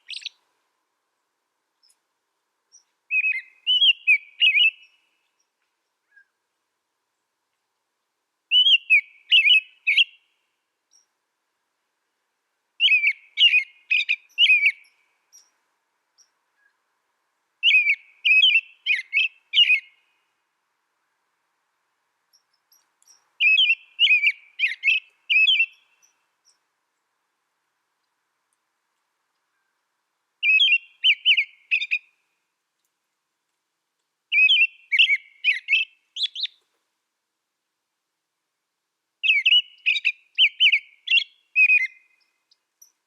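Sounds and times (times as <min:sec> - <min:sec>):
songbird singing: 0:00.0 - 0:36.9, 0:39.1 - 0:43.0.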